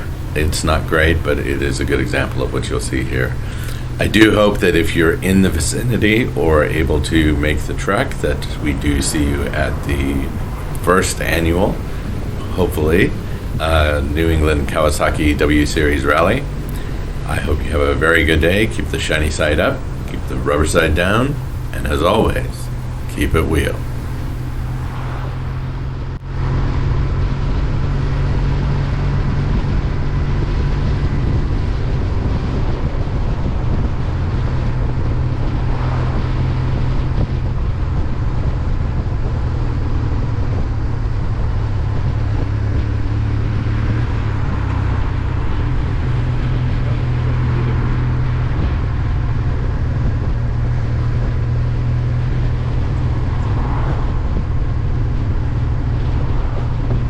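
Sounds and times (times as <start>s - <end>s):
motorcycle engine rumble: 0.0s - 57.0s
wind noise: 0.0s - 57.0s.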